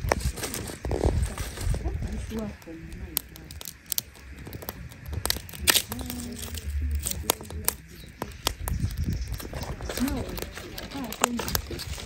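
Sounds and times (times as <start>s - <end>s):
firewood sticks snapping: 0.0s - 12.0s.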